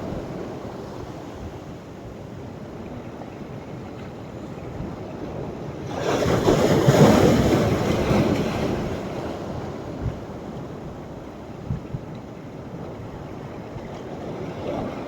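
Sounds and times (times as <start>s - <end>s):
low rumble of surf: 0.0s - 15.0s.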